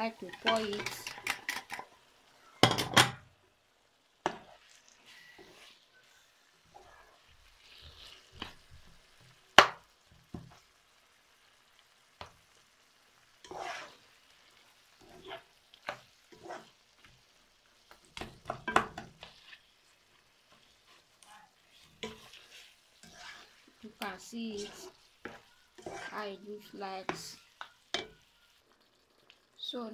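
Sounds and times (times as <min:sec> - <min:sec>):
spatula scraping stew in a pan: 0:00.0 - 0:02.6, 0:04.2 - 0:29.4.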